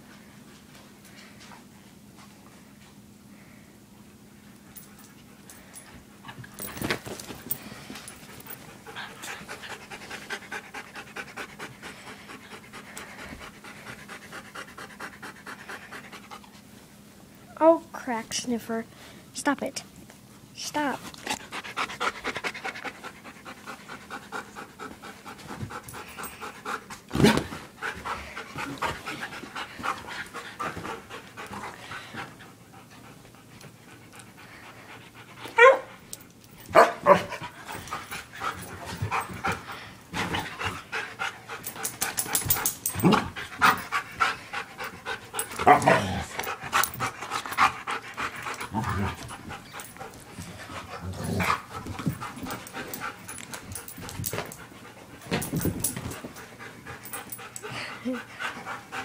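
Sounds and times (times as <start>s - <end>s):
dogs panting: 4.8s - 16.7s, 21.1s - 59.0s.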